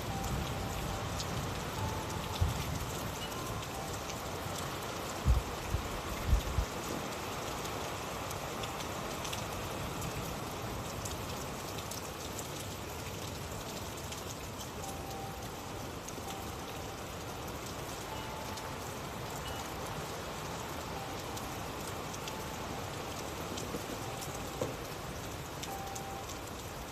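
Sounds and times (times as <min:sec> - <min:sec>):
steady rain: 0:00.0 - 0:26.9.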